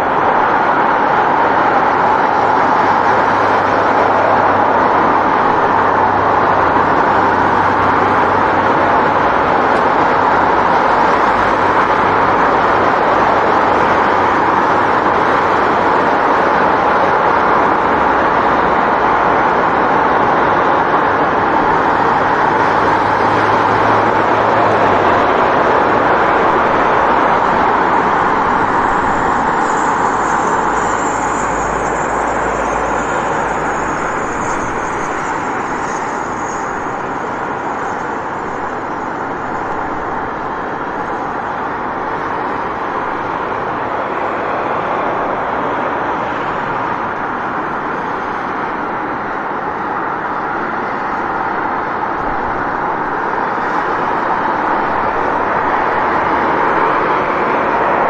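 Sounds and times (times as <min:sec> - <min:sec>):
city street traffic: 0:00.0 - 0:58.0.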